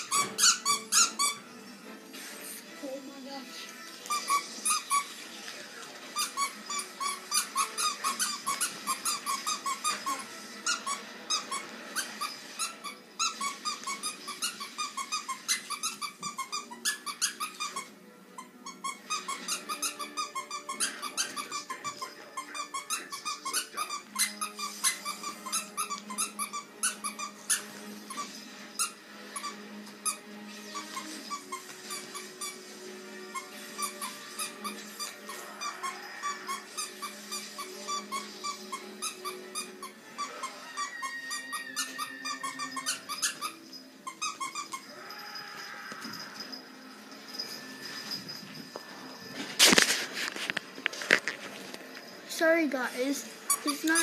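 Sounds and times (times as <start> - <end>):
squeaky dog toy squeaking: 0.0 - 1.7, 4.0 - 5.2, 6.1 - 46.6, 52.4 - 54.0.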